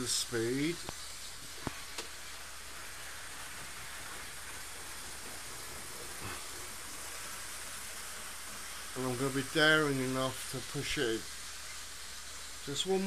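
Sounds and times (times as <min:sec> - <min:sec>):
model trains whirring: 0:00.0 - 0:13.0.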